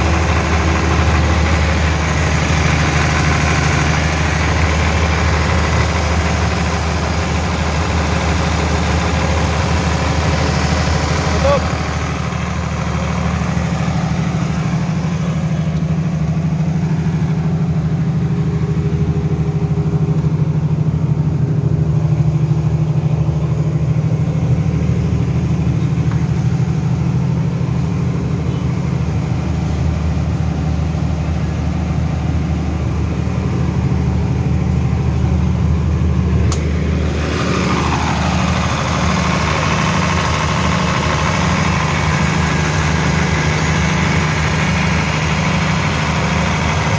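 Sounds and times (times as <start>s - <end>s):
generator engine humming: 0.0s - 46.9s.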